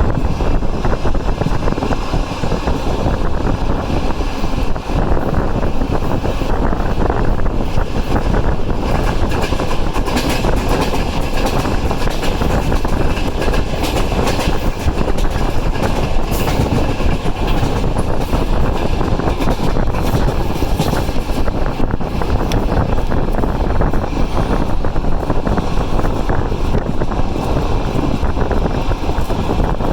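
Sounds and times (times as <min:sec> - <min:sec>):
train rushing noise: 0:00.0 - 0:29.9
train wheels clattering on rails: 0:00.0 - 0:29.9
wind buffeting microphone: 0:00.0 - 0:29.9.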